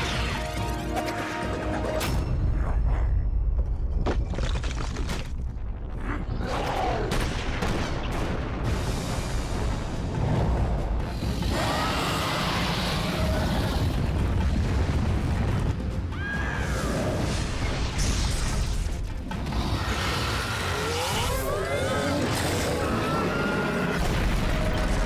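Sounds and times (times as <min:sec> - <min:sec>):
cartoon background music: 0:00.0 - 0:03.8, 0:08.7 - 0:25.0.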